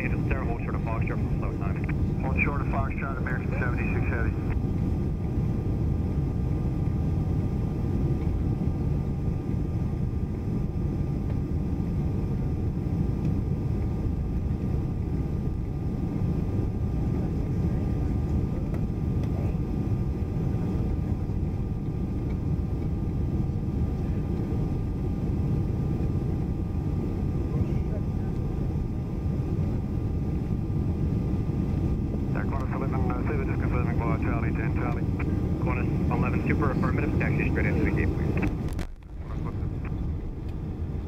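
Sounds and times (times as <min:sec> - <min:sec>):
airplane cabin rumble: 0:00.0 - 0:41.0
faint steady hum tones: 0:00.0 - 0:41.0.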